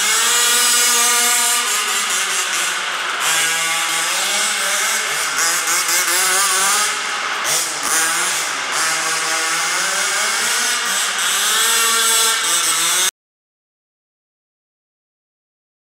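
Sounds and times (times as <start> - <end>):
two-stroke engine revving: 0.0 - 13.1.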